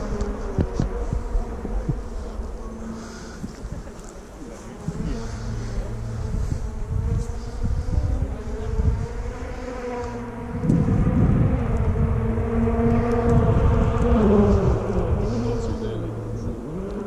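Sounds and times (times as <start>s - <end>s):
distant rally car engine revving: 0.0s - 17.0s
wind gusts on microphone: 0.0s - 17.0s.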